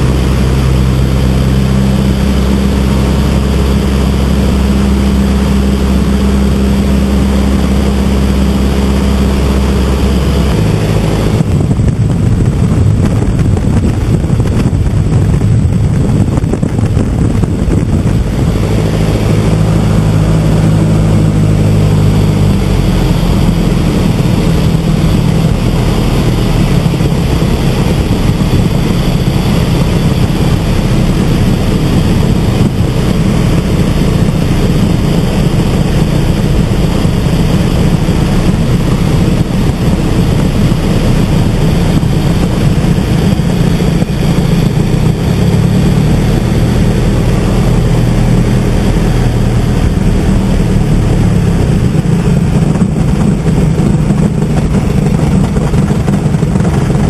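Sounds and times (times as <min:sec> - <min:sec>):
biplane engine and propeller: 0:00.0 - 0:57.0
rushing wind: 0:00.0 - 0:57.0.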